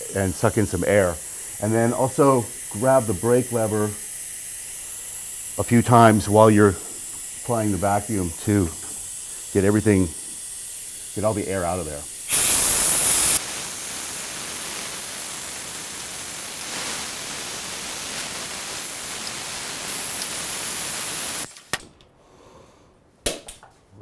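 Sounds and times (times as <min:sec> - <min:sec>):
vacuum brake bleeder hissing: 0:00.0 - 0:21.7.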